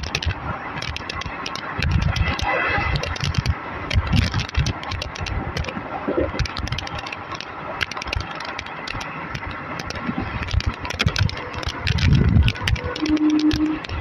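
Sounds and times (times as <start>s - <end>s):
sharp clicks and rattles: 0.0s - 14.0s
wheels rumbling on rail: 0.0s - 14.0s.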